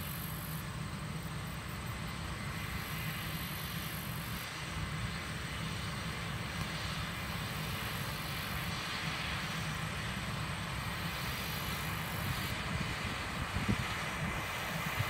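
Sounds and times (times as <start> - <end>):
distant machine drone: 0.0 - 15.0.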